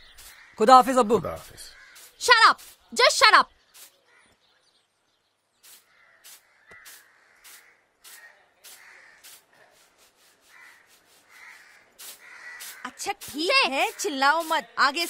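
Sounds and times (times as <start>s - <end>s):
short bird calls: 0.0s - 0.6s, 1.5s - 4.7s, 5.6s - 14.6s
faint outdoor ambience: 0.0s - 15.0s.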